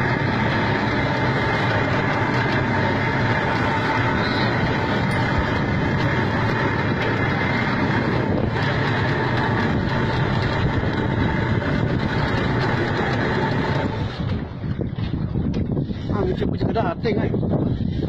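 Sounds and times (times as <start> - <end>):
boat engine running: 0.0 - 18.0
wind on microphone: 0.0 - 18.0.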